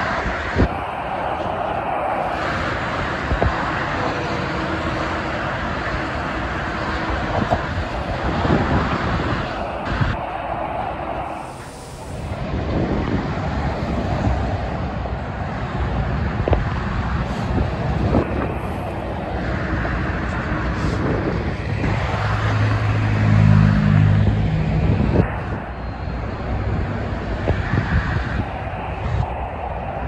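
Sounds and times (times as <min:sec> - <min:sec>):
heavy truck engine droning: 0:00.0 - 0:30.0
road traffic passing: 0:00.0 - 0:30.0.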